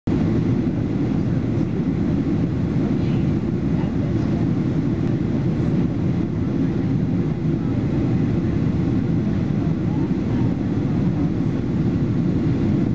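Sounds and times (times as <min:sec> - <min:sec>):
airplane cabin engine rumble: 0:00.1 - 0:12.9.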